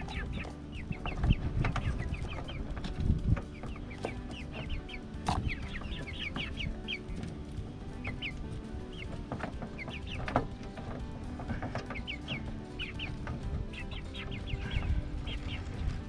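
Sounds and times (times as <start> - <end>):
low rumble: 0.0 - 16.0
young chickens clucking: 0.0 - 16.0.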